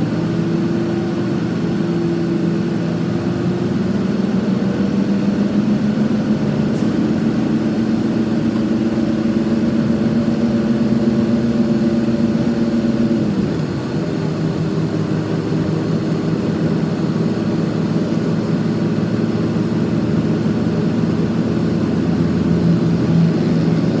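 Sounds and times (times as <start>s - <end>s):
bus engine running: 0.0s - 24.0s.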